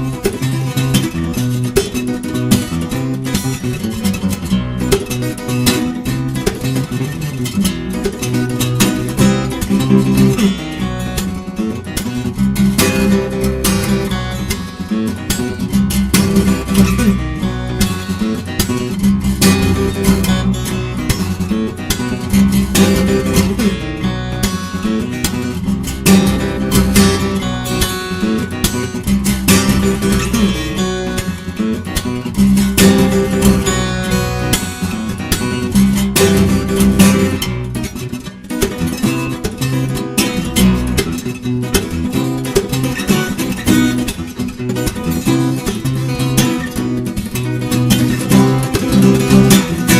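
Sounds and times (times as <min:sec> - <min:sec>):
fingerstyle acoustic guitar: 0:00.0 - 0:49.9.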